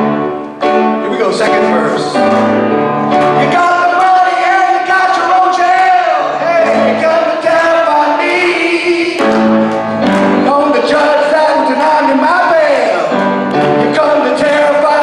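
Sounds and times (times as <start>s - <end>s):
person singing with vibrato: 0.0s - 15.0s
piano chords: 0.0s - 15.0s.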